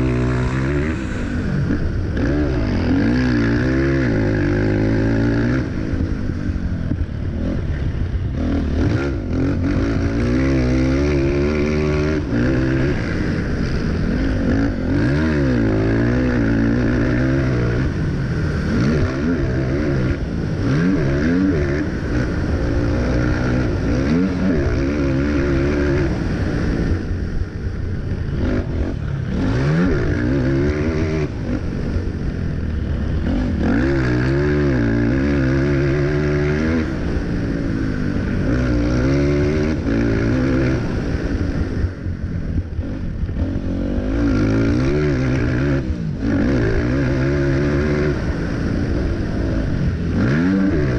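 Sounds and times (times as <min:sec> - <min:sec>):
quad engine revving: 0:00.0 - 0:50.9.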